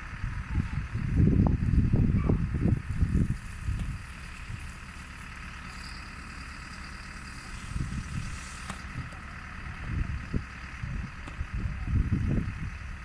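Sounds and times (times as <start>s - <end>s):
fire engine running: 0.0s - 13.0s
low rumbles: 0.0s - 13.0s.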